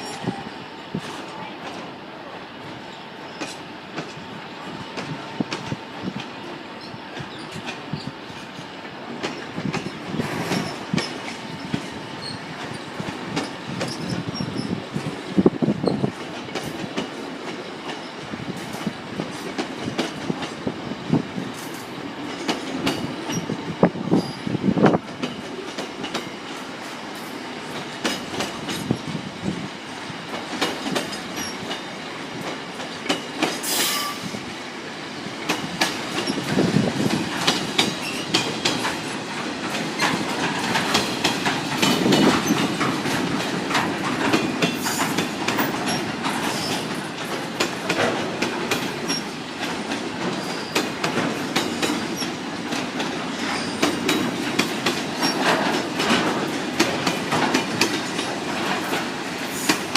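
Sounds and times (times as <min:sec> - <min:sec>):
freight train rumble: 0:00.0 - 0:59.9
train wheels clattering over rail joints: 0:03.4 - 0:34.4, 0:35.3 - 0:59.9.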